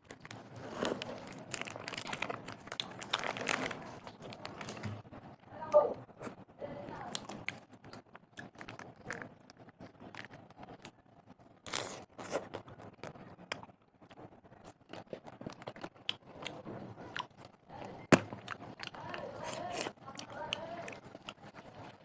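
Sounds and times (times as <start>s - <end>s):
chewing crunchy food: 0.0s - 4.9s, 6.2s - 11.0s, 11.7s - 22.0s.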